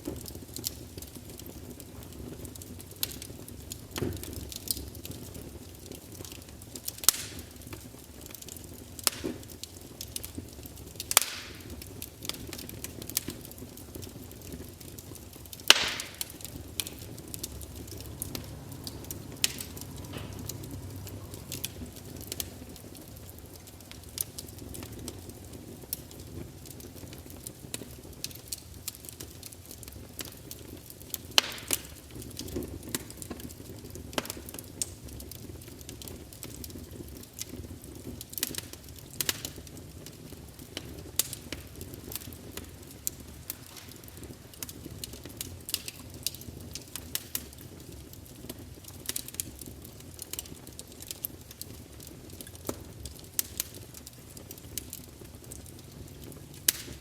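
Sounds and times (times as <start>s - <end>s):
campfire rushing: 0.0s - 57.0s
fire crackles and pops: 0.0s - 57.0s.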